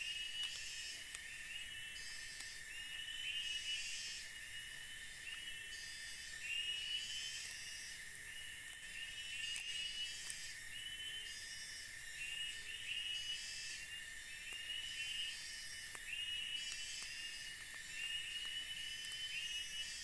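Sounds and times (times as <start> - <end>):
insects chirping: 0.0 - 20.0
steady insect drone: 0.0 - 20.0.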